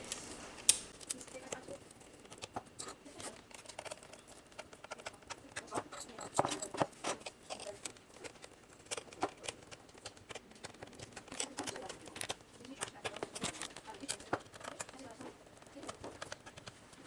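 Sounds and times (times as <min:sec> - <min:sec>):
screwdriver clicking on plastic case: 0:01.0 - 0:16.9.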